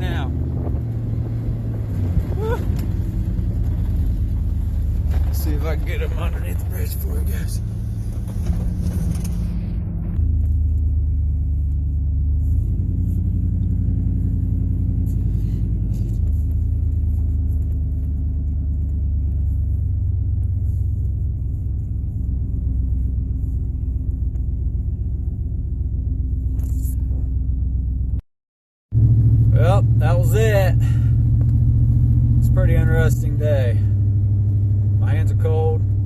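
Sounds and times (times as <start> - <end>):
car engine and road noise: 0.0 - 28.2, 28.9 - 36.0.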